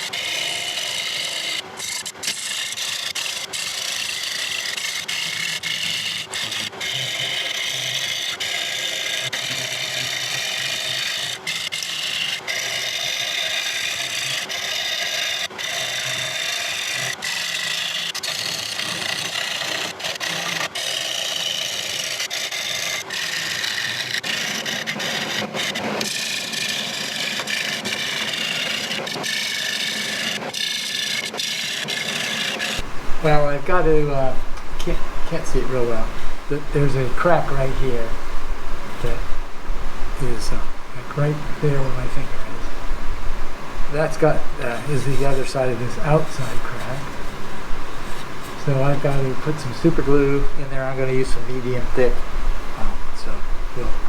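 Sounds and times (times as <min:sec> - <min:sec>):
lathe tool scraping wood: 0:00.0 - 0:54.0.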